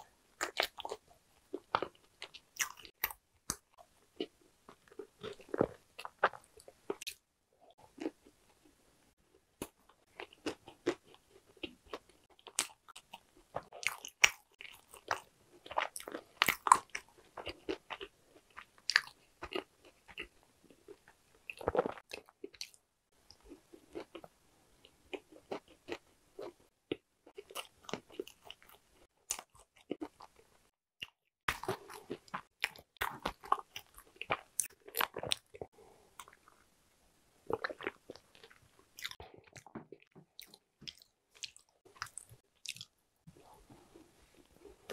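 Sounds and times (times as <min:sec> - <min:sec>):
chewing crunchy cakes: 0:00.0 - 0:36.7, 0:37.4 - 0:44.9.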